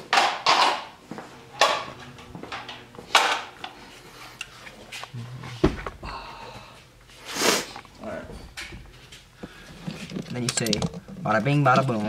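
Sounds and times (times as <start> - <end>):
hard parts clattering and rustling: 0.0 - 6.1, 7.7 - 12.0.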